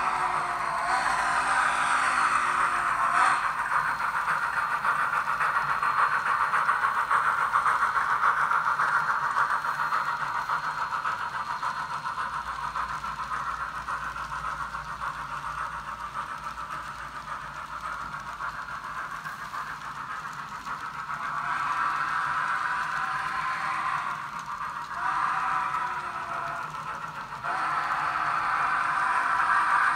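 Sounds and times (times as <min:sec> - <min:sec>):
model freight cars rolling: 0:00.0 - 0:29.9
model steam locomotive chuffing: 0:00.0 - 0:29.9.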